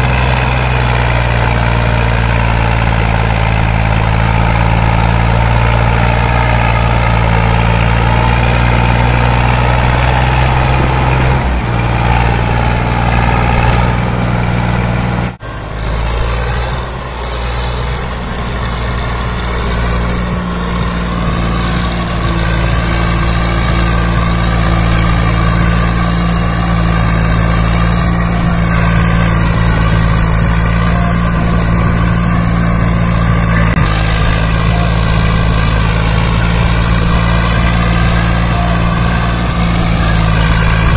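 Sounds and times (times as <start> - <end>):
tractor diesel engine under heavy load: 0.0 - 40.9.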